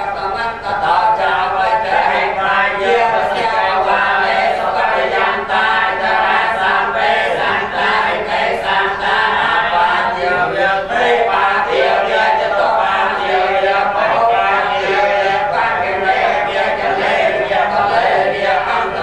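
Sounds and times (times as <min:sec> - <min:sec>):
lead voice through a microphone: 0:00.0 - 0:19.0
monks chanting in unison: 0:00.0 - 0:19.0.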